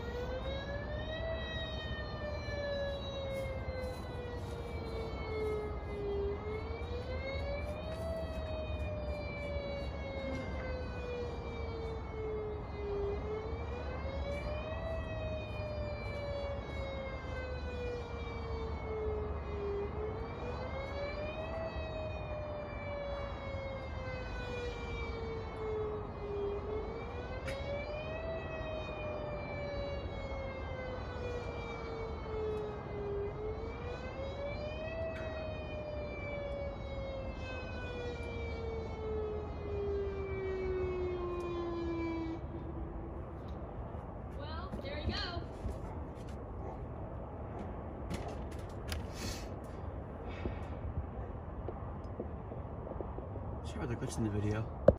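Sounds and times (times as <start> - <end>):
siren wailing: 0.0 - 54.9.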